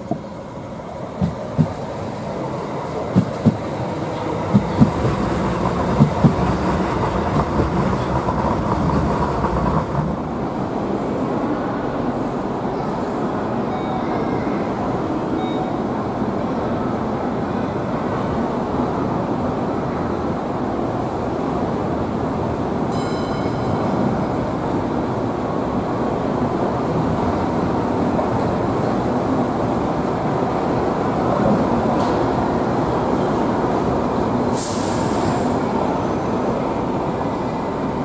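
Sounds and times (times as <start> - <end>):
light rail car rolling past: 0.0 - 38.0.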